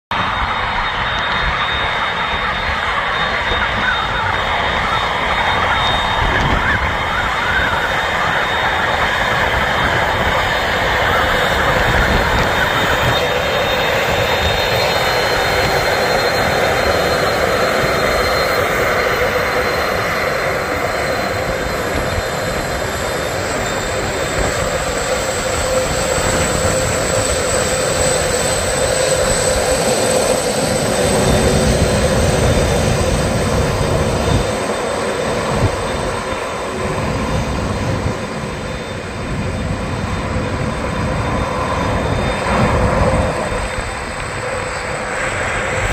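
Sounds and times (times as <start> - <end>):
jet engine roar with fan whine: 0.0 - 45.9.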